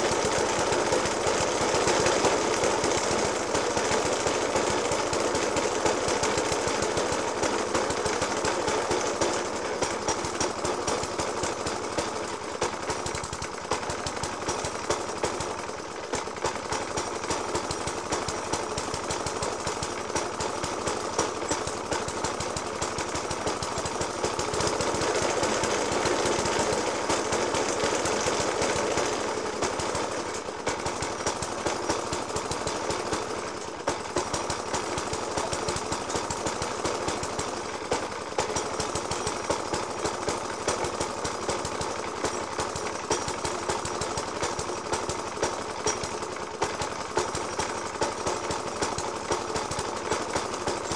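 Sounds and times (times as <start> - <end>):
lawnmower engine idling roughly: 0.0 - 50.9.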